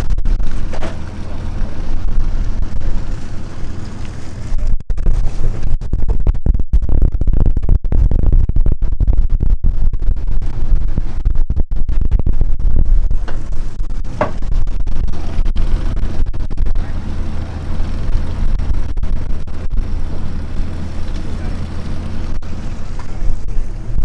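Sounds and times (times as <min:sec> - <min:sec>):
boat engine low rumble: 0:00.0 - 0:05.9, 0:09.9 - 0:11.3, 0:11.9 - 0:24.0
wind buffeting microphone: 0:00.0 - 0:06.1, 0:10.4 - 0:24.0.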